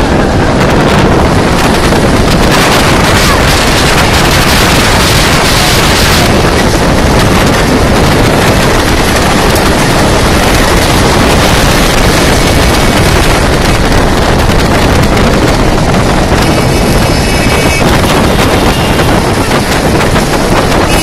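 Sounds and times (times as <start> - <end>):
vehicle running noise: 0.0 - 21.0
wind rushing over microphone: 0.0 - 21.0.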